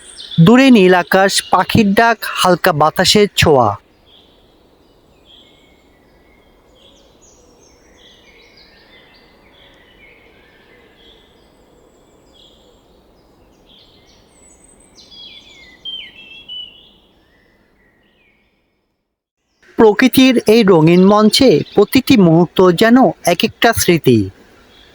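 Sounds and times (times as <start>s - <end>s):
faint outdoor hiss: 0.0s - 24.9s
wild birds chirping: 0.0s - 24.9s.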